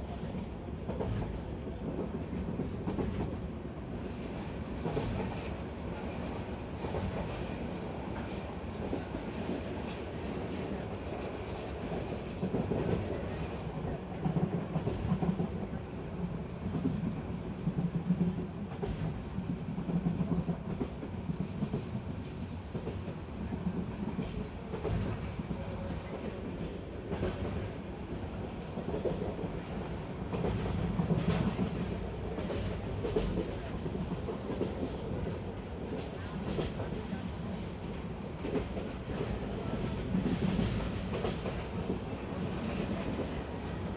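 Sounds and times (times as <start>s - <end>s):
passenger train rumbling: 0.0s - 43.9s.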